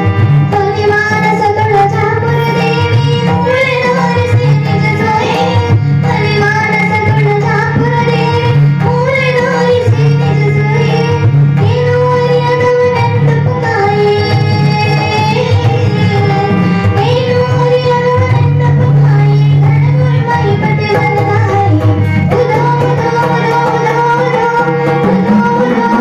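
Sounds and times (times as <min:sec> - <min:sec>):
harmonium: 0:00.0 - 0:26.0
tabla: 0:00.0 - 0:26.0
woman singing: 0:00.5 - 0:26.0.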